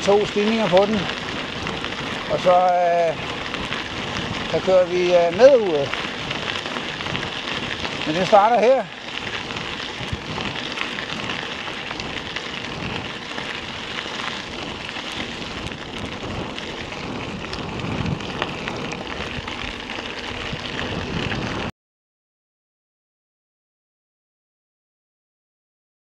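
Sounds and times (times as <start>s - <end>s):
bike tyres crunching on gravel: 0.0s - 21.7s
grit ticking: 0.0s - 21.7s.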